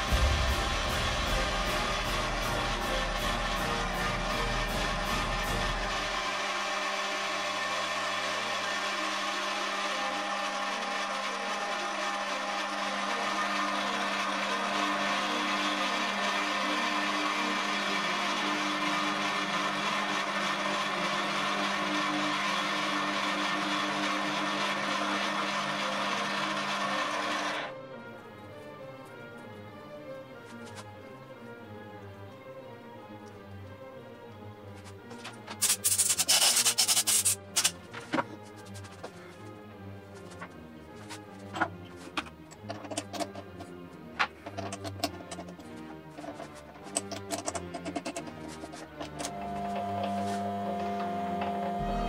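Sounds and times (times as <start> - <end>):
electric machine tool whirring: 0.0 - 27.8, 34.9 - 52.0.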